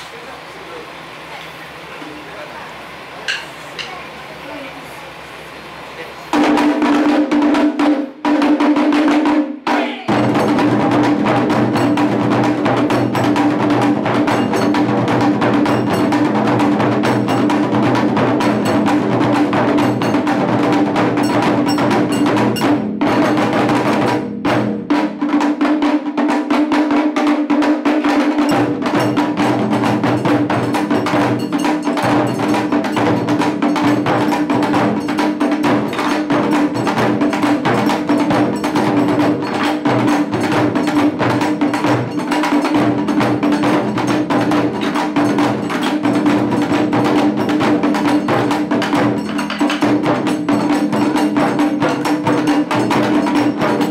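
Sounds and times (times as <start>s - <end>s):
high-pitched drum strokes: 0.0s - 53.9s
deep barrel drums: 6.3s - 53.9s.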